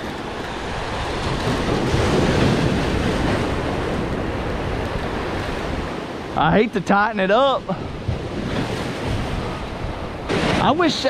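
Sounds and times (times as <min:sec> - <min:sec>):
surf breaking against rocks: 0:00.0 - 0:06.4, 0:07.4 - 0:11.0
wind buffeting microphone: 0:00.0 - 0:11.0.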